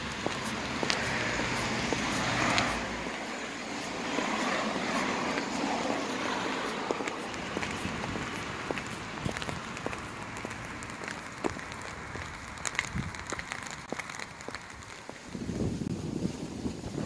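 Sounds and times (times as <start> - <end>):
car passing: 0.0 - 15.6
high heels stepping on asphalt: 0.0 - 15.8.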